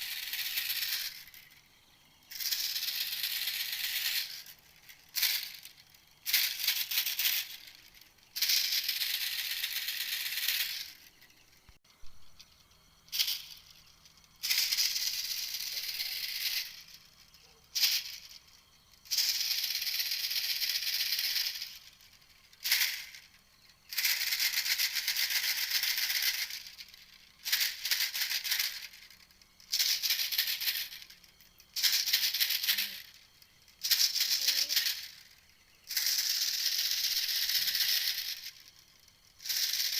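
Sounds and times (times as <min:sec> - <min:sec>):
bird rattling chatter call: 0:00.0 - 0:11.7, 0:12.3 - 0:39.9.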